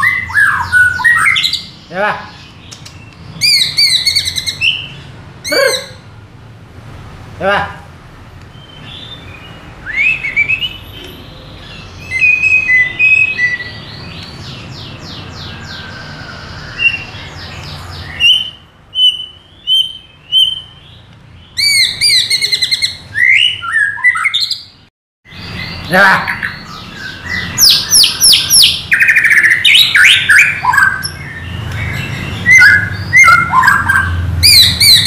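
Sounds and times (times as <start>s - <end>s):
bird singing varied song: 0.0s - 6.1s, 8.4s - 35.0s.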